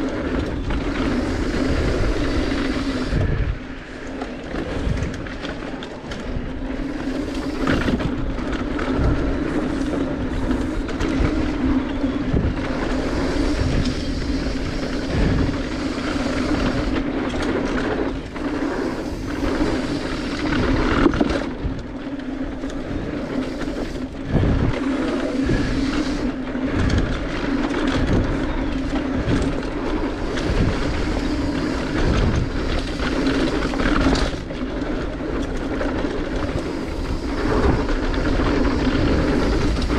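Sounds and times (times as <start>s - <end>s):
bike rattling: 0.0s - 39.9s
tyres rumbling over dirt: 0.0s - 39.9s.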